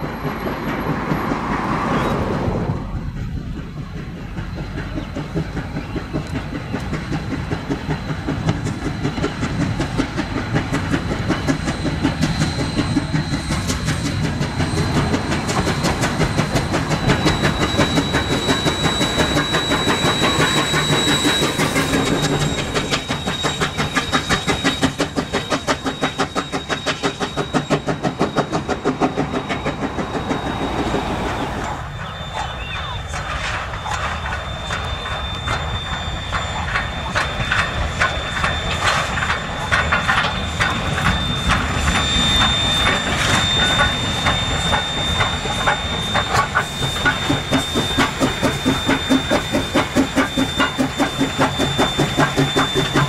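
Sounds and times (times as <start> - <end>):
steam locomotive chuffing: 0.0 - 53.0.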